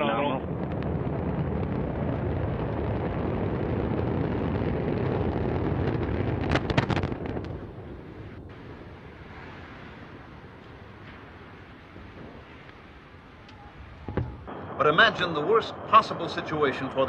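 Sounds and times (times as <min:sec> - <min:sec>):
explosion cracks: 0:00.0 - 0:17.0
rocket engines rumbling: 0:00.0 - 0:17.0.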